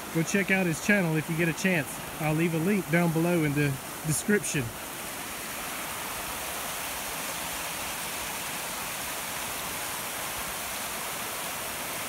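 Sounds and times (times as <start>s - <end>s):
creek rushing over rock: 0.0s - 12.0s.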